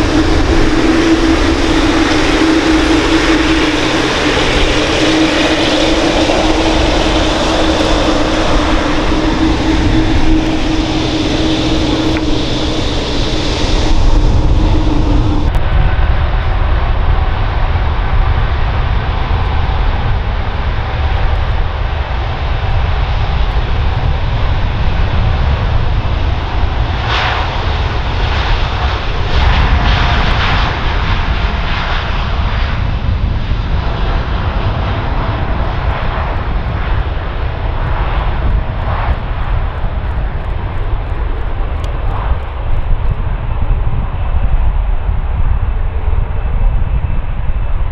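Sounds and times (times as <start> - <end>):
jet engine rumble: 0.0 - 47.9.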